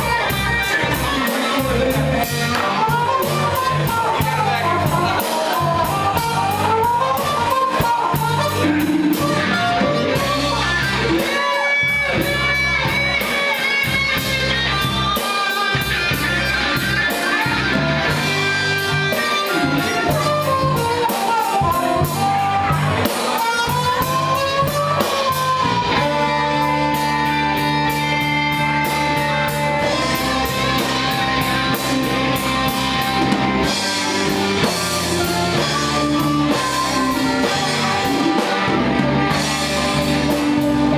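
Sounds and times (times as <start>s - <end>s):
bass guitar: 0.0s - 40.9s
drum kit: 0.0s - 40.9s
electric guitar lead with bends: 0.0s - 40.9s.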